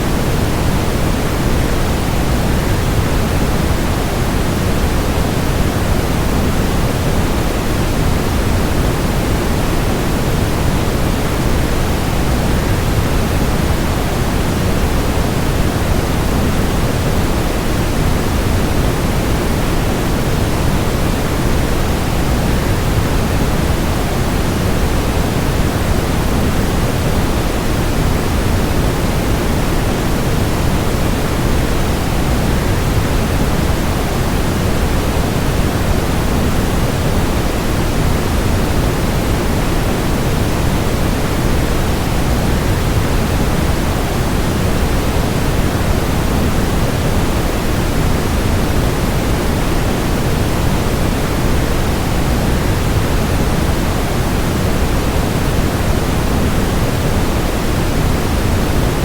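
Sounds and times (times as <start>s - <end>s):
white noise: 0.0s - 59.0s.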